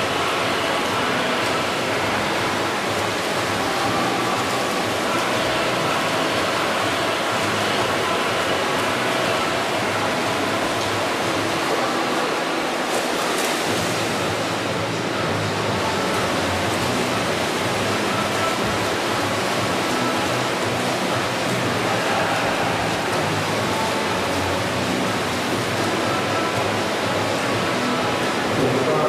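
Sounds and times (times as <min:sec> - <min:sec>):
swimmers splashing water: 0:00.0 - 0:29.0.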